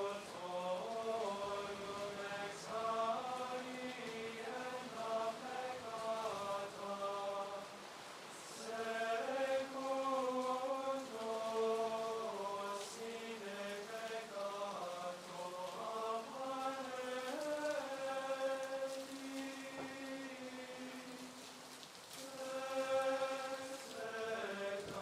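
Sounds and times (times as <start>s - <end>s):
plainchant sung in unison: 0.0s - 25.0s.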